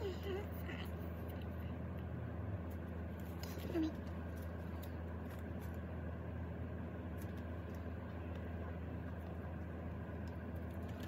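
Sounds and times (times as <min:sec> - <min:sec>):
room noise hum: 0:00.0 - 0:11.0.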